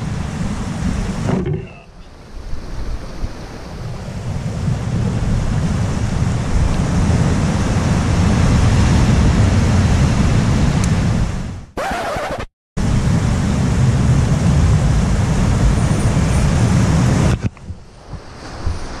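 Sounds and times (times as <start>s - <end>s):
ocean surf washing ashore: 0.0s - 19.0s
wind rumbling on microphone: 0.0s - 19.0s.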